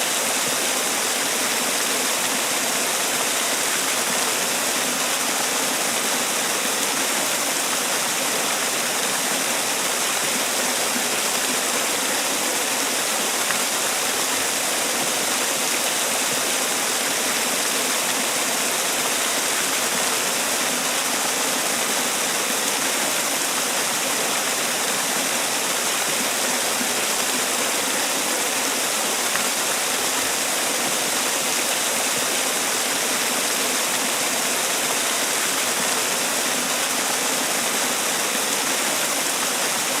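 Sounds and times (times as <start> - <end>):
waterfall splashing: 0.0 - 40.0.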